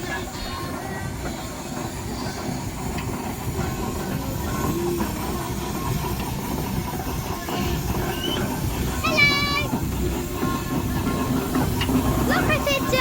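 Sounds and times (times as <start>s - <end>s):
steam hissing: 0.0s - 13.0s
steam train rumbling: 0.0s - 13.0s.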